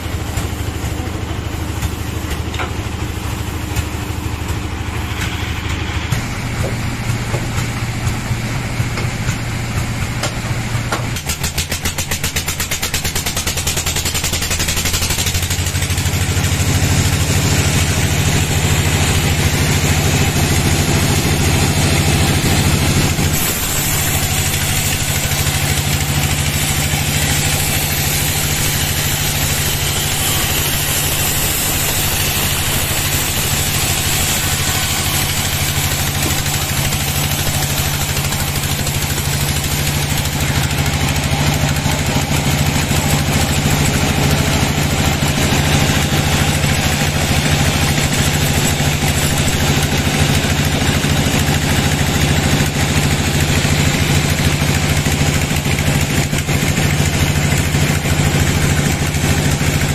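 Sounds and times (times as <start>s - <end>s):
band saw cutting through log: 0.0s - 59.9s.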